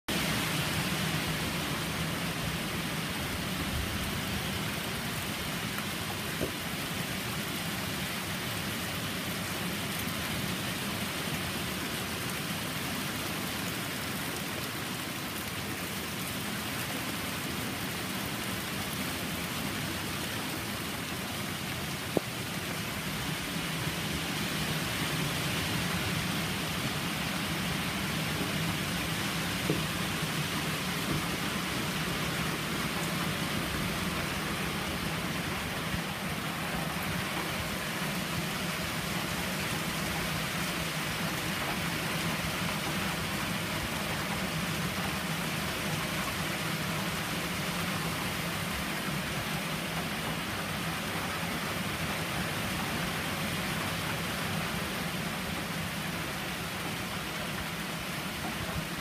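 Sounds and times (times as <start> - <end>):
steady rain falling: 0.1 - 59.0.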